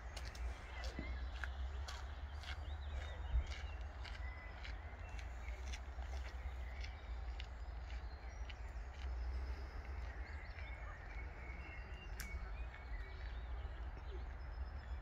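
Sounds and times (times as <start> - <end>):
faint bird chirps: 0.0 - 15.0
low outdoor rumble: 0.0 - 15.0.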